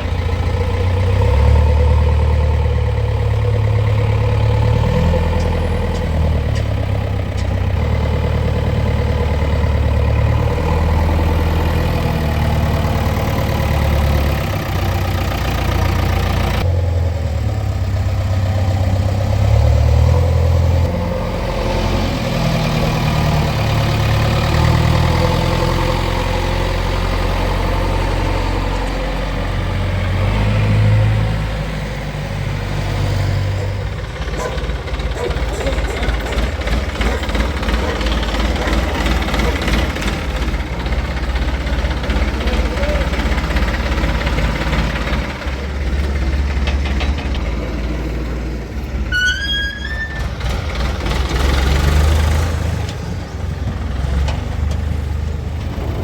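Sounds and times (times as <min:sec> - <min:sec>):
diesel machinery engines running: 0:00.0 - 0:56.0.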